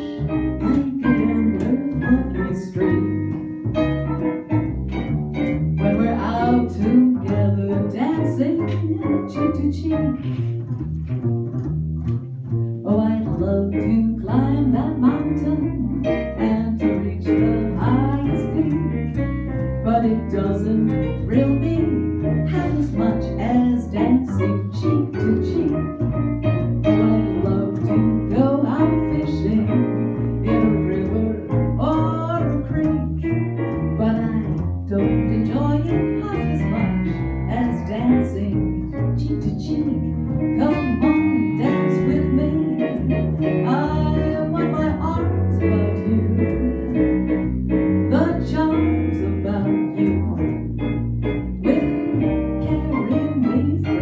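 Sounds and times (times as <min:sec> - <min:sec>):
woman singing into microphone: 0:00.0 - 0:03.1, 0:05.8 - 0:10.4, 0:12.9 - 0:19.0, 0:19.8 - 0:25.9, 0:26.9 - 0:33.2, 0:34.0 - 0:47.0, 0:48.1 - 0:50.2, 0:51.6 - 0:54.0
stage piano: 0:00.0 - 0:54.0
upright bass walking line: 0:00.0 - 0:54.0.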